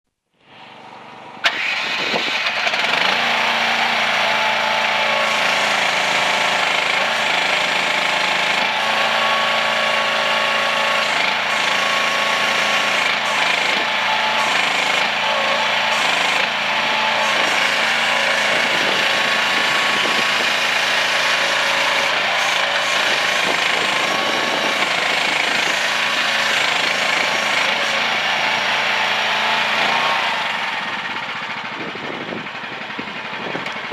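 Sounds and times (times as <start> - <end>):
small engine starting and running: 0.4 - 33.9.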